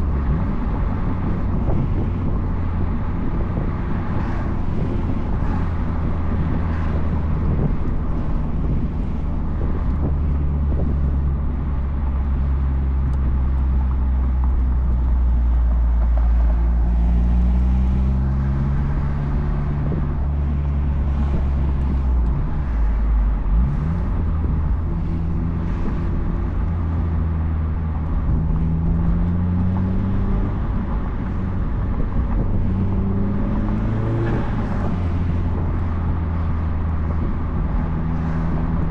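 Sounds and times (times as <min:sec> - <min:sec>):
car engine accelerating: 0:00.0 - 0:38.9
wind and road noise: 0:00.0 - 0:38.9.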